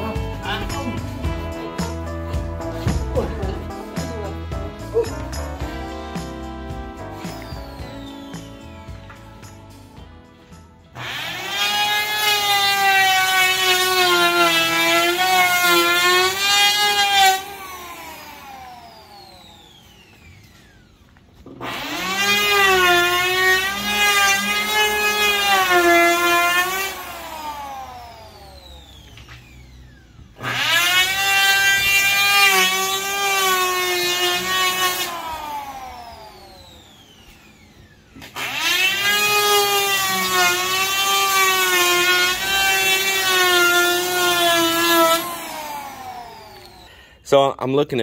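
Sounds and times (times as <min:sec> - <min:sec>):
motor spinning down: 0:00.0 - 0:09.9, 0:11.0 - 0:46.9
electric planer shaving wood: 0:00.0 - 0:47.0.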